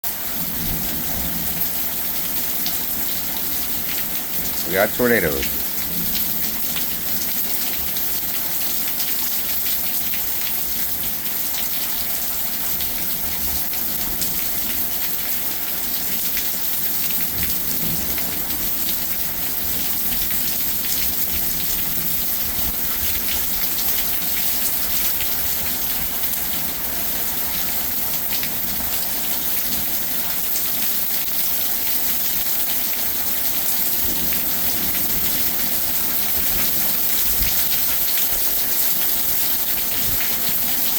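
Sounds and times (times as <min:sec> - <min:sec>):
heavy rain pattering: 0:00.1 - 0:40.9.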